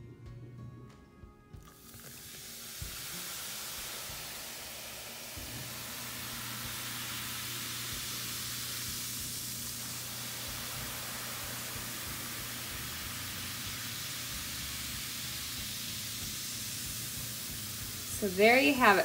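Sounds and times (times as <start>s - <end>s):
liquid fizzing with hiss: 1.6s - 19.0s.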